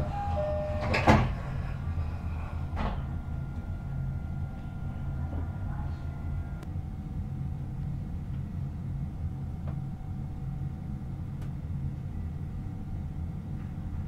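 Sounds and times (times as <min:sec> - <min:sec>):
train carriage hum: 0:00.0 - 0:14.0.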